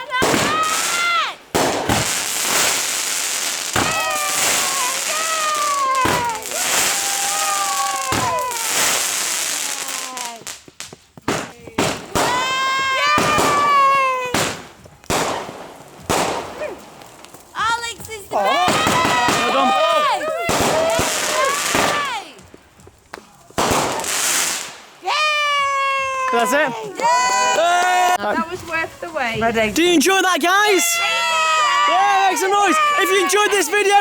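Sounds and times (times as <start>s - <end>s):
fireworks bangs: 0.0s - 29.8s
fireworks crackling: 0.0s - 34.0s.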